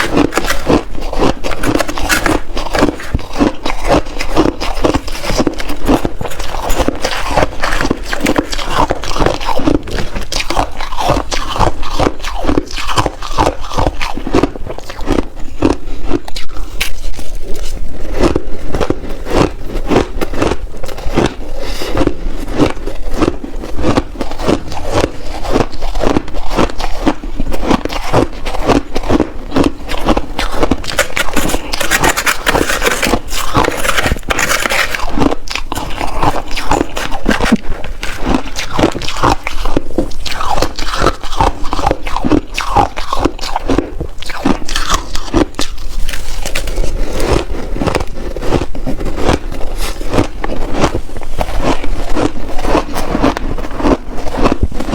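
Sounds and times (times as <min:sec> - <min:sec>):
ice crunching while chewed: 0:00.0 - 0:54.9.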